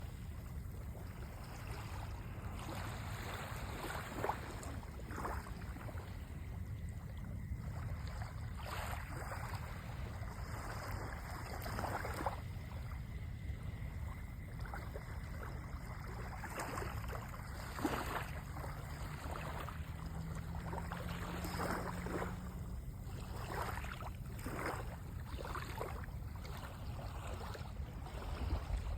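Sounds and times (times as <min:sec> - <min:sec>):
water lapping and splashing: 0:00.0 - 0:28.9
wind rumble on microphone: 0:00.0 - 0:28.9.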